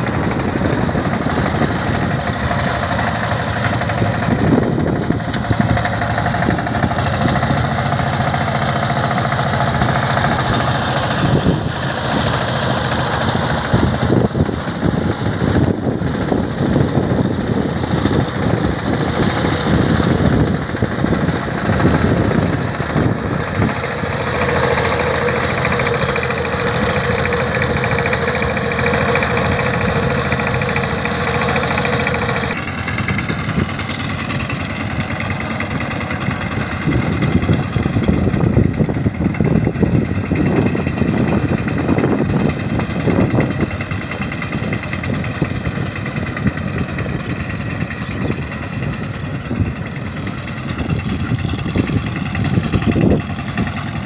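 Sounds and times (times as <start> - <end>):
diesel engine running: 0.0 - 54.0
steady whine: 0.0 - 54.0
wheels ploughing through mud: 0.0 - 54.0.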